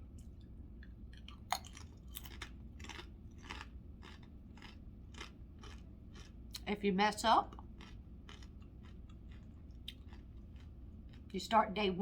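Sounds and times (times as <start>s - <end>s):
person chewing food: 0.1s - 6.6s, 7.5s - 11.3s.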